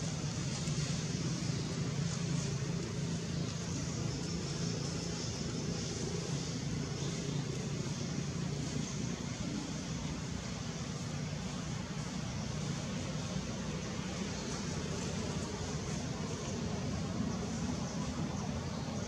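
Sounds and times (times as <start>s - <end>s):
even hiss: 0.0s - 19.0s
steady low hum: 0.0s - 19.0s.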